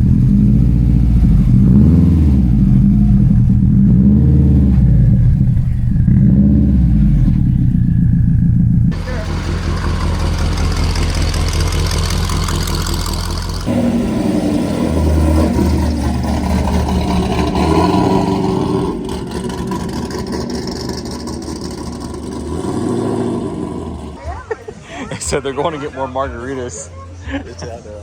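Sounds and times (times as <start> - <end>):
car engine idling deeply: 0.0 - 24.2
car engine running: 0.0 - 24.2.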